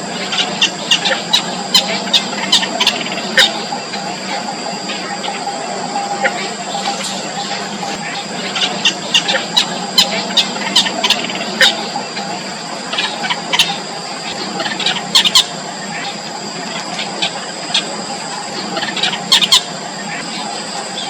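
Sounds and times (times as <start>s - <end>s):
steady high-pitched tone: 0.0s - 21.0s
nestlings squeaky begging calls: 0.1s - 21.0s.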